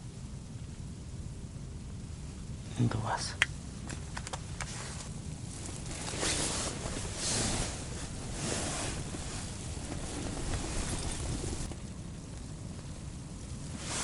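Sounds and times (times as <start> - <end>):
blizzard wind gusting against tent: 0.0 - 14.0.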